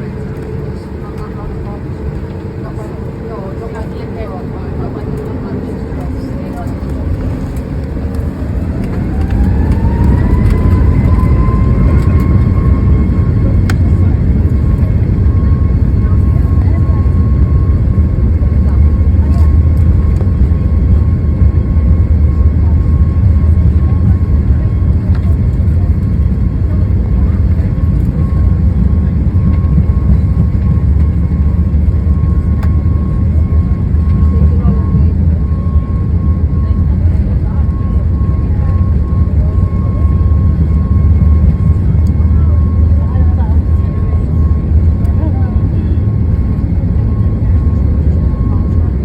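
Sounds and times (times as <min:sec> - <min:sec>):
heavy low engine rumble: 0:00.0 - 0:49.0
jet engine whine: 0:00.0 - 0:49.0.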